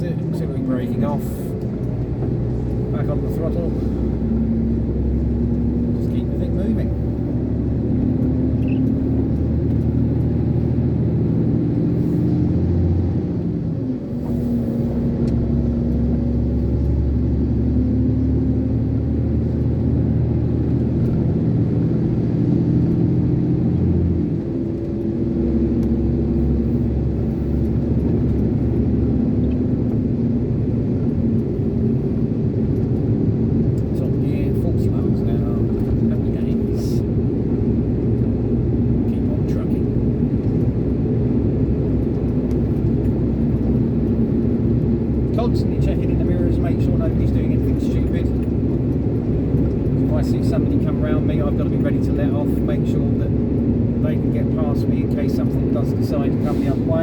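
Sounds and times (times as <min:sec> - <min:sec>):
diesel lorry engine rumbling: 0:00.0 - 0:57.0.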